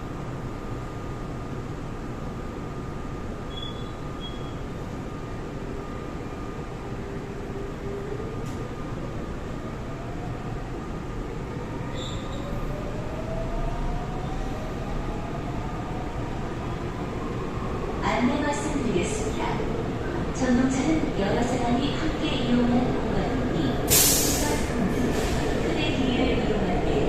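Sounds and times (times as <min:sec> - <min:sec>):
rail and wheel noise: 0:00.0 - 0:27.0.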